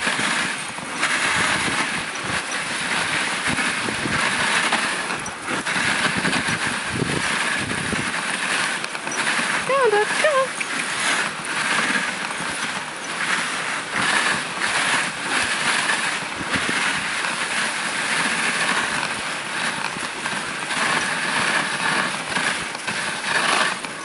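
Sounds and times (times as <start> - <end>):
sled runners scraping over snow: 0.0 - 24.0.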